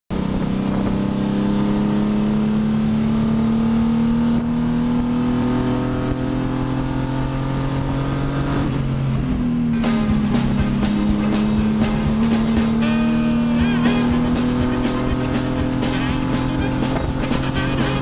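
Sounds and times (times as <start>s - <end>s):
race car engine under load: 0.1s - 18.0s.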